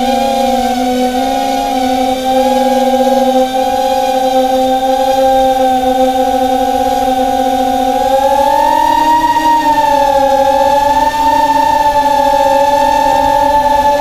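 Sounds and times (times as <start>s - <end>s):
electric motors and propellers whining: 0.0s - 14.0s.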